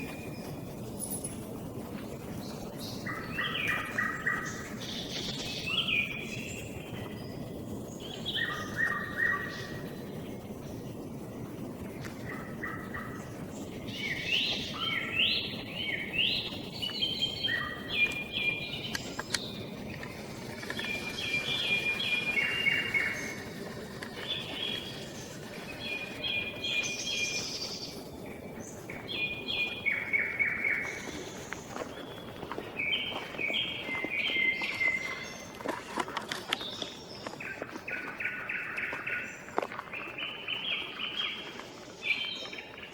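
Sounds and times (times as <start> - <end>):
song thrush singing: 2.3 - 10.8, 11.9 - 42.9
nightingale singing: 2.4 - 9.9, 12.2 - 35.6, 36.4 - 42.9.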